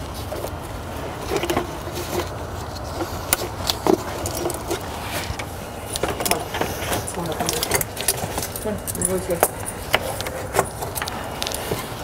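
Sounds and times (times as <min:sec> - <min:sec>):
low background hum: 0:00.0 - 0:12.0
light clicks and metallic rattles: 0:01.2 - 0:12.0.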